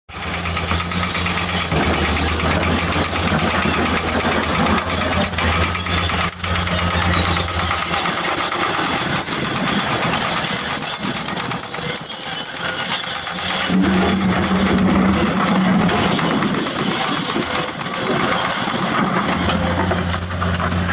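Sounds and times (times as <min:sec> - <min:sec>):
crawler tracks clanking: 0:00.1 - 0:20.9
diesel engine running: 0:00.1 - 0:20.9
high steady whine: 0:00.1 - 0:20.9.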